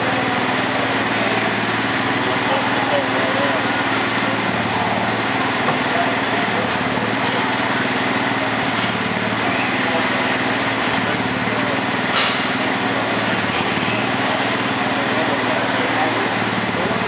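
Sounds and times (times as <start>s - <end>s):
small tractor engine idling: 0.0s - 17.0s.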